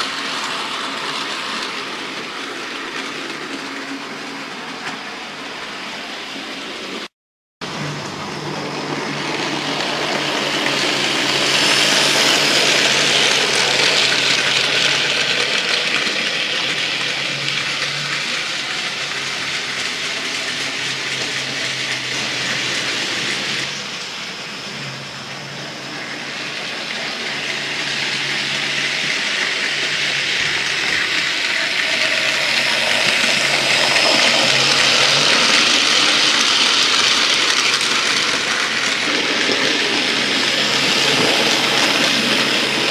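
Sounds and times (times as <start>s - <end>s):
model train motor rumbling: 7.6s - 42.9s.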